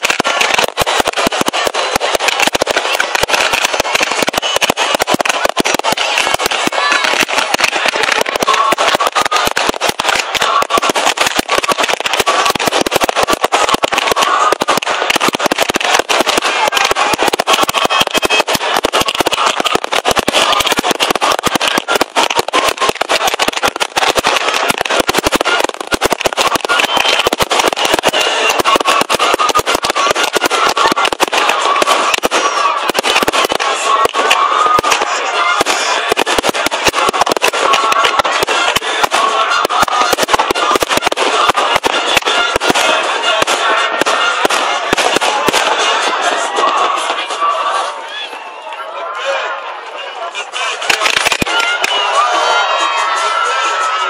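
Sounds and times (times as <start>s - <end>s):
fireworks bangs and crackles: 0.0s - 48.0s, 50.4s - 54.0s
crowd background noise: 0.0s - 54.0s.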